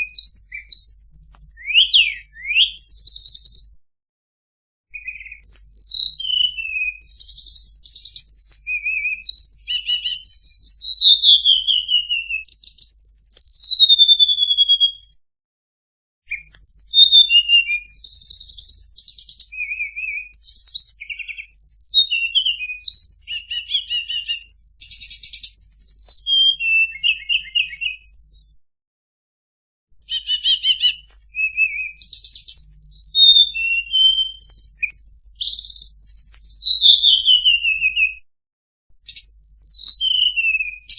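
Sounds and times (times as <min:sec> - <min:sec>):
bird song with whistles and trills: 0:00.0 - 0:03.8, 0:04.9 - 0:15.2, 0:16.2 - 0:28.6, 0:30.0 - 0:38.3, 0:39.0 - 0:40.9.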